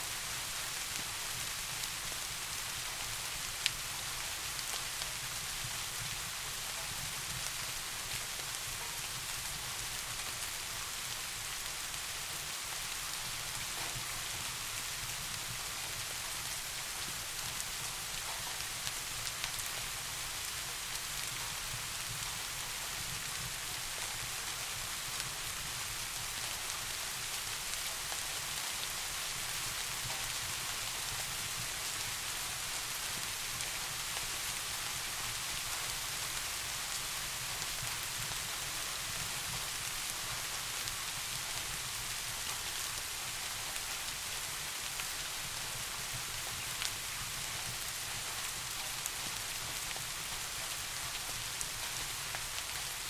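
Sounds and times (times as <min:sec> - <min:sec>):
soft rain hissing: 0:00.0 - 0:53.0.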